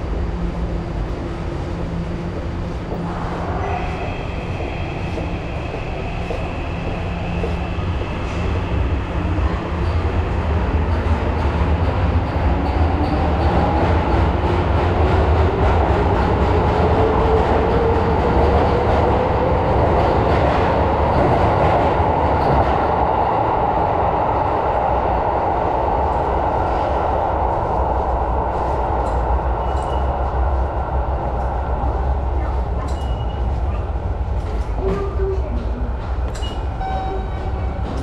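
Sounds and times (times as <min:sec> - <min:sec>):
subway train rumble: 0:00.0 - 0:38.0.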